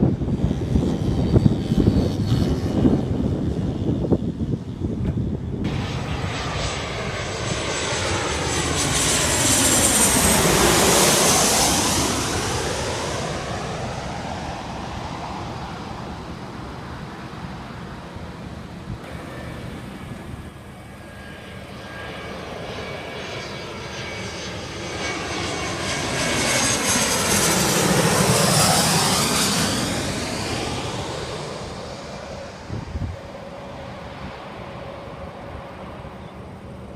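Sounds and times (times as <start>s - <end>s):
jet airliners flying past: 0.0s - 36.9s.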